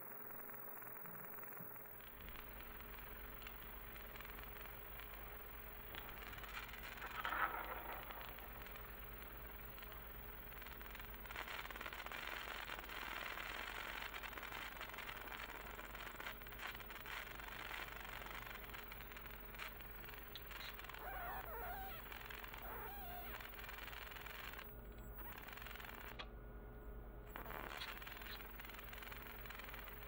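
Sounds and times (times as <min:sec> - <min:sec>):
low mains hum: 0:00.0 - 0:30.0
electrical arc hissing: 0:02.0 - 0:26.2, 0:27.3 - 0:30.0.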